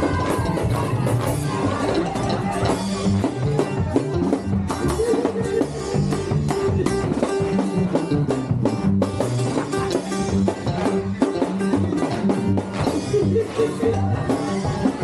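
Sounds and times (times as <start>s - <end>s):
band playing dance beat: 0.0s - 15.0s.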